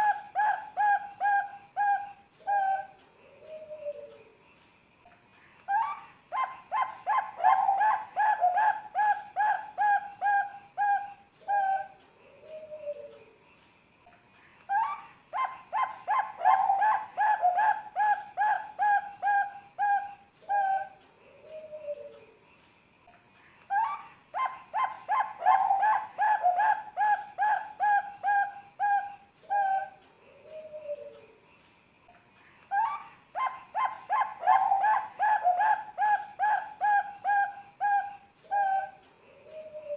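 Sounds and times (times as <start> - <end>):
dove cooing: 0.0 - 4.2, 5.7 - 13.3, 14.7 - 22.3, 23.7 - 31.3, 32.7 - 39.9.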